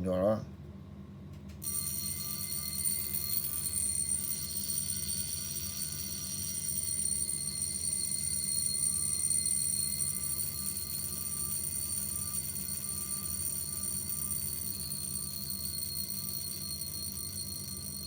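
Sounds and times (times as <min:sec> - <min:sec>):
wristwatch alarm ringing: 0:01.6 - 0:18.0.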